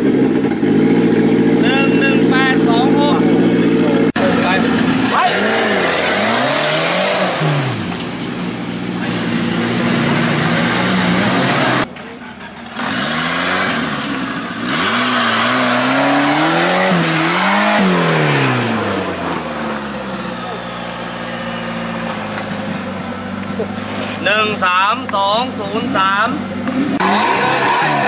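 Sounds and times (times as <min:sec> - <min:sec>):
engine revving: 0:00.0 - 0:28.0.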